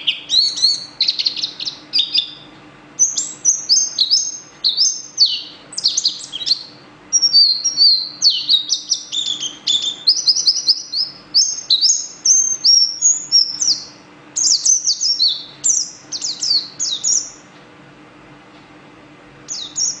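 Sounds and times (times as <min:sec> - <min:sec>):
songbird singing trills: 0:00.0 - 0:17.5, 0:19.5 - 0:20.0.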